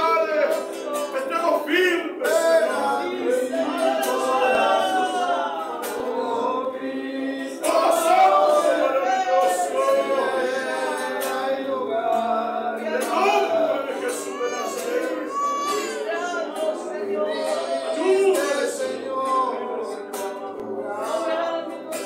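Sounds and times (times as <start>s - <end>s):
congregation singing unaccompanied: 0.0s - 22.0s.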